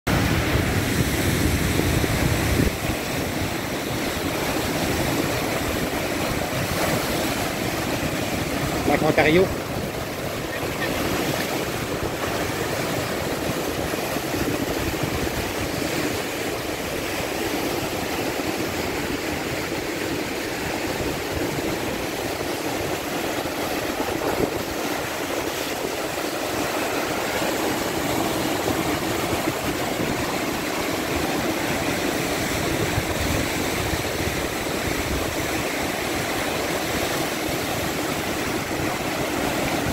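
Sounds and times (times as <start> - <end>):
waves breaking on rocks: 0.1 - 39.9
wind buffeting microphone: 0.1 - 39.9.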